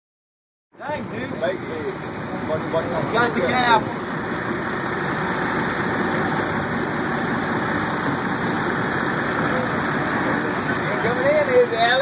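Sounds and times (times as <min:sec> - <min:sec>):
boat engine idling: 0:00.8 - 0:12.0.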